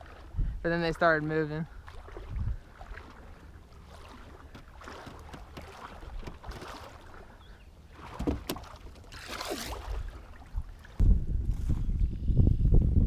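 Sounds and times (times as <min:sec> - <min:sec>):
shallow water sloshing: 0:00.0 - 0:11.8.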